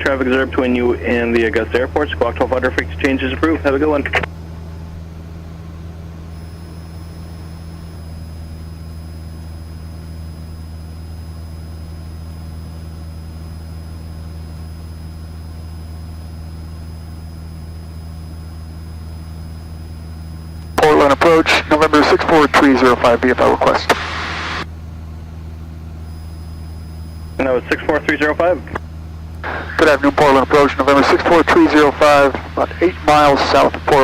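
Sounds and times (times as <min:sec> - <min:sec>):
airplane engine droning: 0:00.0 - 0:34.0
faint high-pitched whines: 0:00.0 - 0:34.0.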